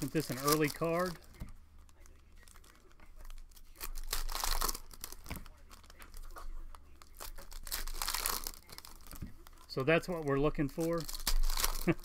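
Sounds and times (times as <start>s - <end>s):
foil wrappers crinkling and tearing: 0.0s - 12.0s.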